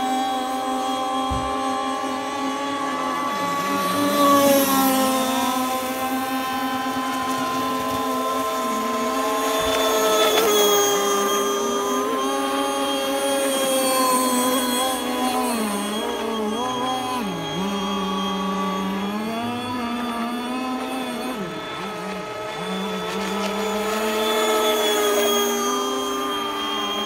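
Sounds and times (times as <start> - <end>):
model speedboat motors whining: 0.0 - 27.0.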